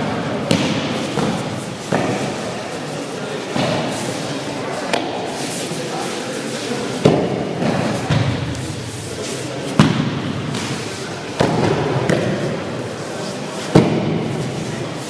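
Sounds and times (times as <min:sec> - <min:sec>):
background din in large hall: 0:00.0 - 0:15.0.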